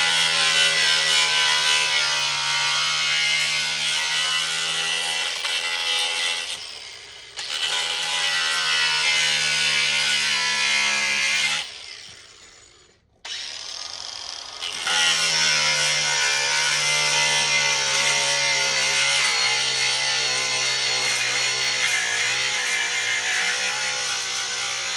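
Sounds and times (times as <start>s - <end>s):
angle grinder cutting plastic: 0.0s - 24.9s.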